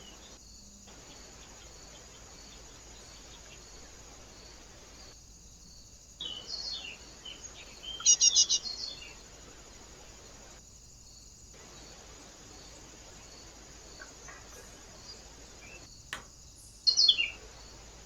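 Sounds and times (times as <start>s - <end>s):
small bird chirping: 0.0s - 9.3s, 11.6s - 18.0s
faint insect chirring: 0.0s - 18.0s
steady hiss: 0.0s - 18.0s.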